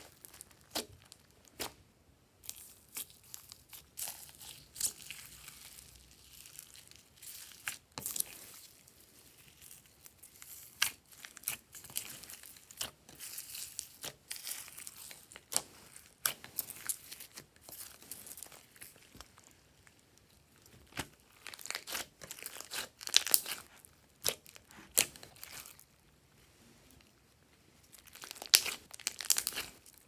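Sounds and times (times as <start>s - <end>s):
hands squishing sticky slime: 0.0s - 1.8s, 2.4s - 26.1s, 27.8s - 30.0s.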